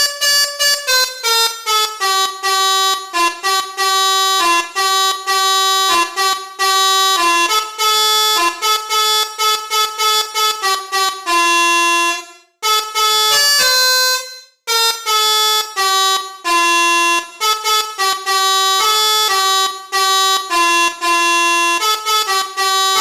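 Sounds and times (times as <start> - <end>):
multi-tone bus air horn tune: 0.0 - 23.0.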